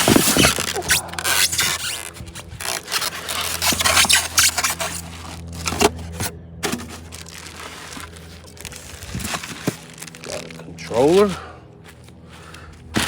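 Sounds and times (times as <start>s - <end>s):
packing materials scraping in box: 0.0s - 10.6s
steady low hum: 0.0s - 13.0s.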